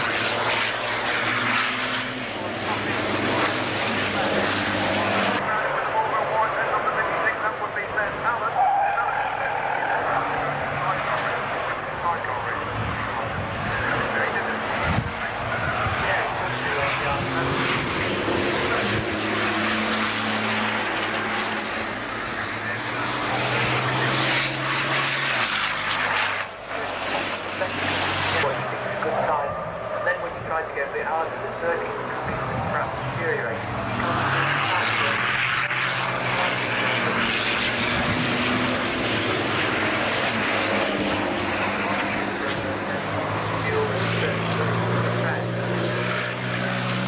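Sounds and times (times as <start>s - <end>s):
race truck diesel engines: 0.0s - 47.0s.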